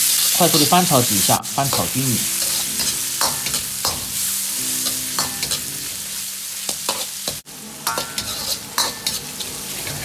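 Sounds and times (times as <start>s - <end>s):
food sizzling in oil: 0.0s - 10.0s
steel ladle scraping wok: 1.7s - 10.0s.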